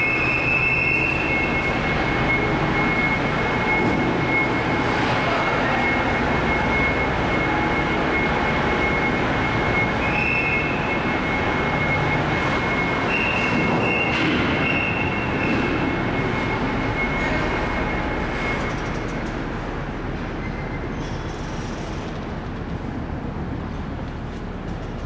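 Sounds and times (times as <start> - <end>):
ship machinery din: 0.0 - 21.0
diesel truck engine: 0.0 - 25.0.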